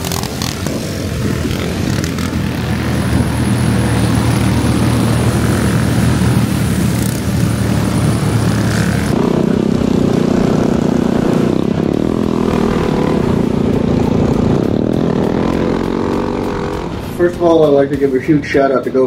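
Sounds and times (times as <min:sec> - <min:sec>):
minibike engine running hard: 0:00.0 - 0:18.6
minibike engines passing: 0:00.0 - 0:19.0.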